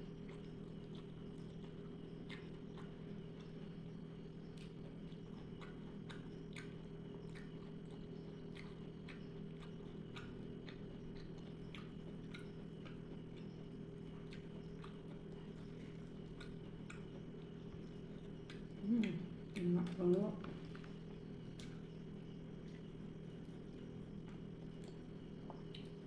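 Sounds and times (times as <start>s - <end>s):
low electrical hum: 0.0s - 26.0s
person chewing with wet smacking: 0.0s - 26.0s.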